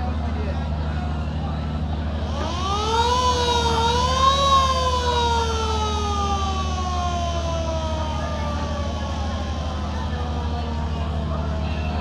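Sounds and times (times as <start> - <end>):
low engine drone: 0.0 - 12.0
boat siren wailing: 1.7 - 12.0.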